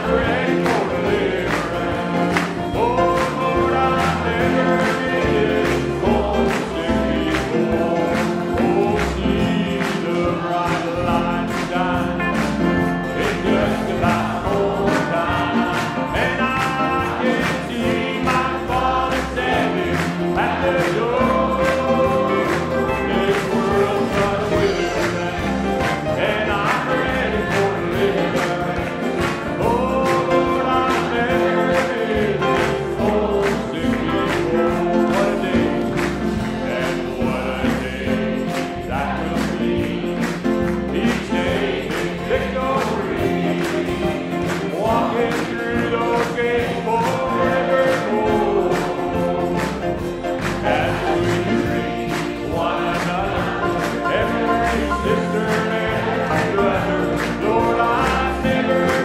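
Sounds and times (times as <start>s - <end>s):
congregation singing a hymn: 0.0s - 59.0s
instrumental accompaniment with beat: 0.0s - 59.0s
song leader singing: 0.0s - 59.0s.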